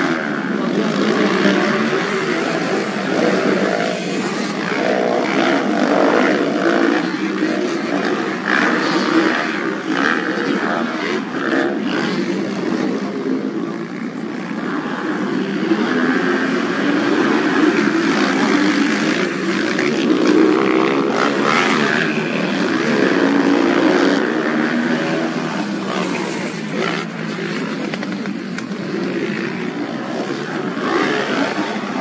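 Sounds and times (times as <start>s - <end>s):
motocross motorcycle engines revving: 0.0s - 32.0s.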